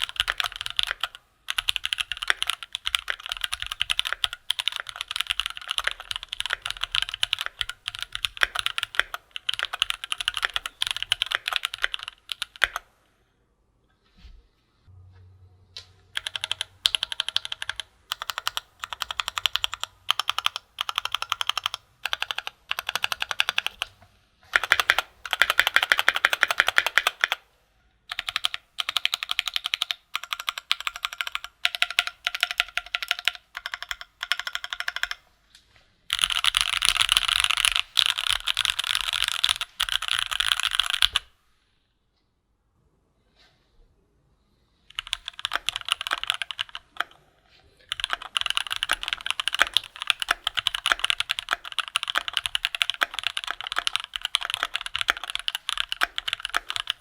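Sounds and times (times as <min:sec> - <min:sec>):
typing on mechanical keyboard: 0:00.0 - 0:12.9, 0:16.2 - 0:27.4, 0:28.1 - 0:35.2, 0:36.1 - 0:41.3, 0:44.9 - 0:47.2, 0:47.9 - 0:57.0.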